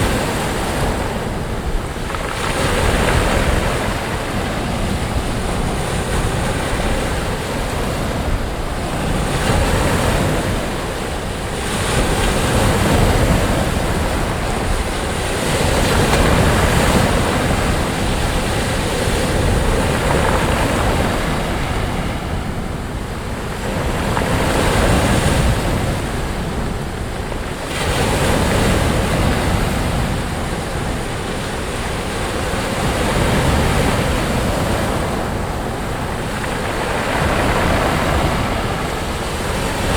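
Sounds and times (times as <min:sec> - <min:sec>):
sea waves breaking on beach: 0:00.0 - 0:39.9
wind rumble on microphone: 0:00.0 - 0:39.9.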